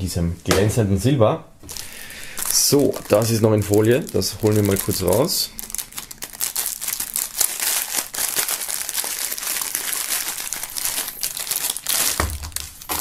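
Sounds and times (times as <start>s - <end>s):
plastic bag crinkling: 1.6s - 13.0s.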